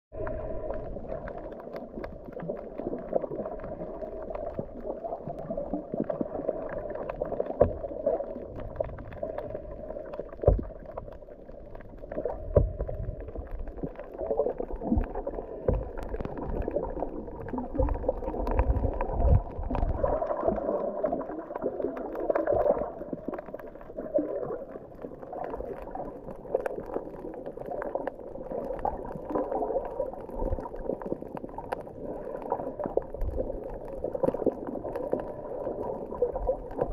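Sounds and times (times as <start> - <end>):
underwater rushing and gurgling: 0.1 - 36.9.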